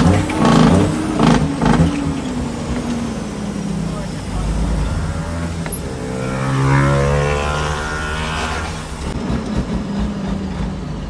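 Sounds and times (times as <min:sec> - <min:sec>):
truck diesel engine humming: 0:00.0 - 0:11.0.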